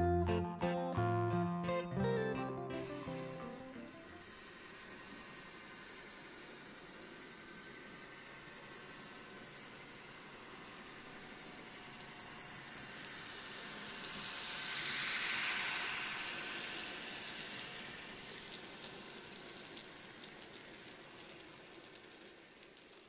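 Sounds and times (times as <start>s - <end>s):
model train motor whirring: 4.1s - 23.0s
small wheels rolling on rails: 4.1s - 23.0s.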